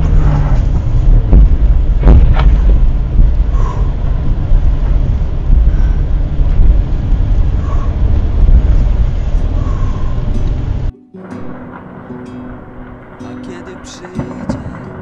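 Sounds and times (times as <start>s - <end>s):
car driving on slushy road: 0.0s - 15.0s.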